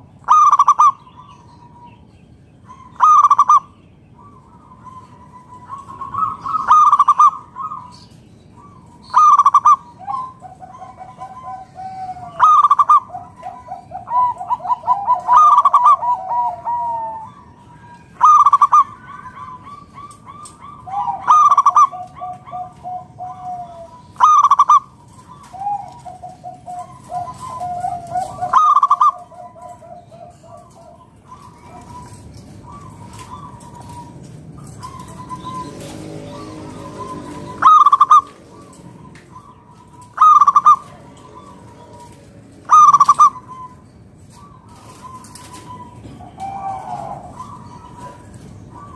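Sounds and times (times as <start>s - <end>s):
dove cooing: 0.0s - 48.9s
rolling trilled coos: 0.0s - 48.9s.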